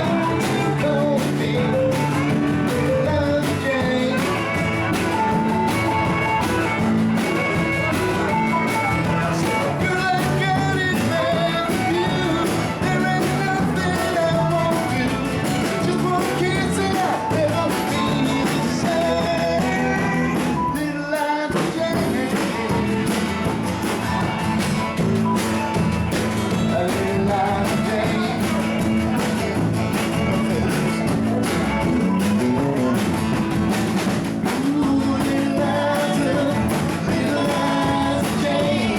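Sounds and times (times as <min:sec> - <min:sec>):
rock band playing with guitar: 0:00.0 - 0:38.9.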